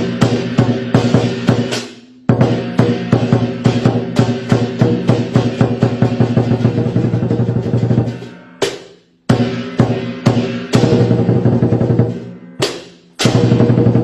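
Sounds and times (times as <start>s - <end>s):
drum beating: 0.0s - 14.0s.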